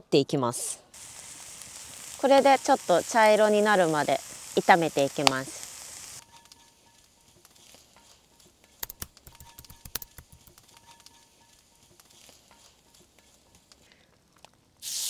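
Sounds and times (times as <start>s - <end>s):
sharp crackles and clicks: 0.9s - 15.0s.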